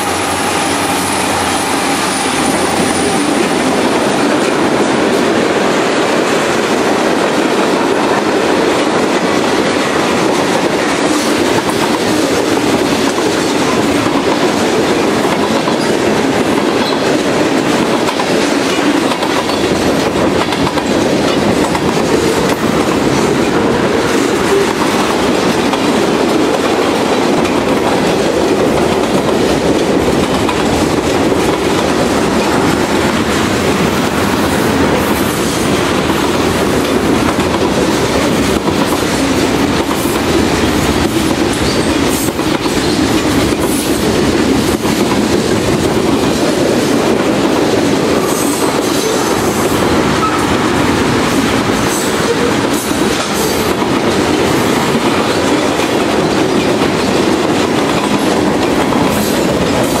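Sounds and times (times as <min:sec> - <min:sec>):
train wheels rumbling on rail: 0:00.0 - 1:00.0
wheels clicking over track: 0:00.0 - 1:00.0.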